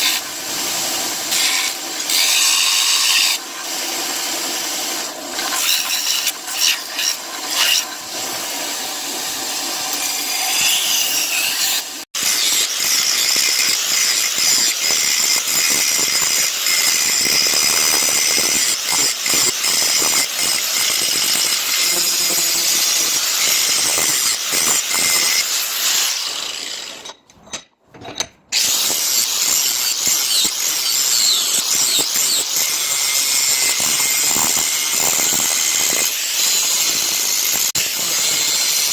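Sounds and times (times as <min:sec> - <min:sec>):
abrasive power tool rasping: 0:00.0 - 0:27.2, 0:28.5 - 0:38.9.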